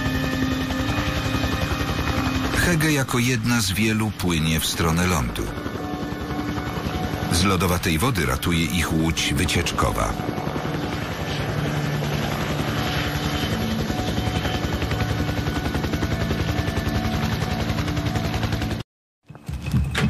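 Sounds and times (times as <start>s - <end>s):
helicopter rotor chopping: 0.0s - 18.8s.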